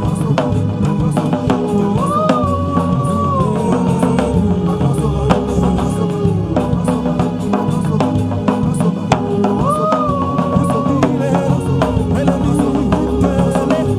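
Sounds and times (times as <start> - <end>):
bass groove: 0.0 - 13.9
drum kit: 0.0 - 13.9
held lead melody: 0.0 - 13.9.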